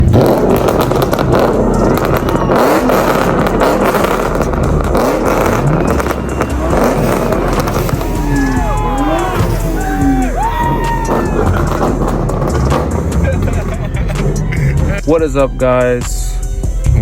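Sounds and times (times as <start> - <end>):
rushing and crackling noise: 0.0 - 14.6
car engines revving: 0.0 - 15.6.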